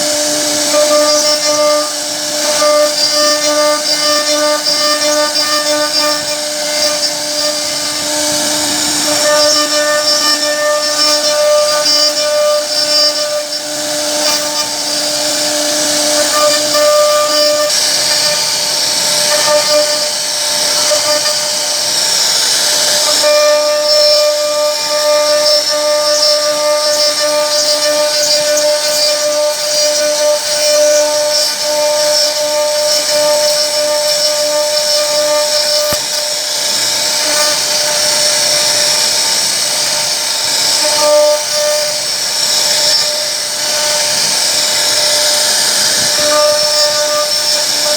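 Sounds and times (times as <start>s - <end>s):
router spindle whine: 0.0s - 47.9s.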